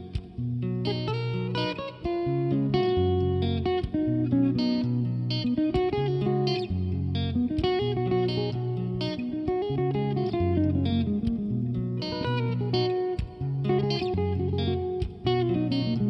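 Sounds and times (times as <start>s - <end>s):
plucked guitar notes: 0.0s - 16.0s.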